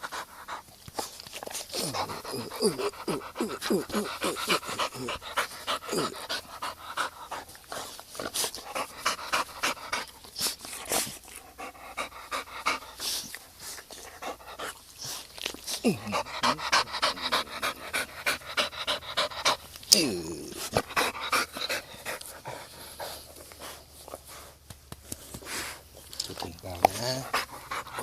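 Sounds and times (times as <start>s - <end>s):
dog panting: 0.0s - 28.0s.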